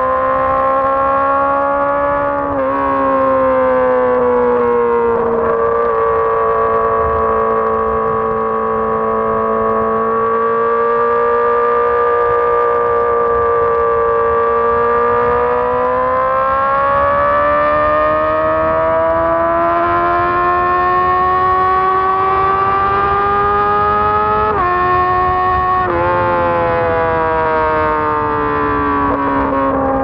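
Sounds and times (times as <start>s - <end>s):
motorcycle engine howling at high revs: 0.0s - 30.0s.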